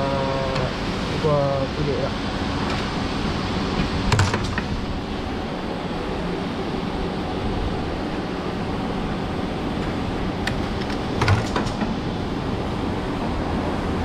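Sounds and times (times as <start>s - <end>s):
machine mechanical hum: 0.0s - 14.0s.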